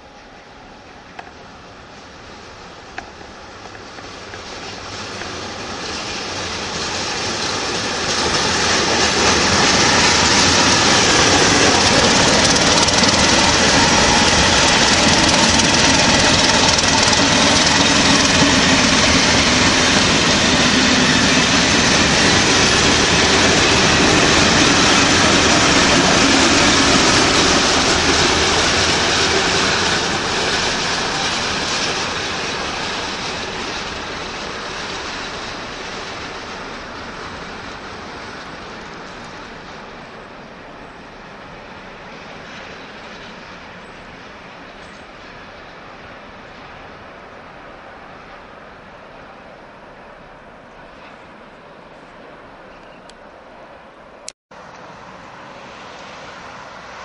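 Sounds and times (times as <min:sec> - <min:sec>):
passenger train passing: 0:00.0 - 0:57.0.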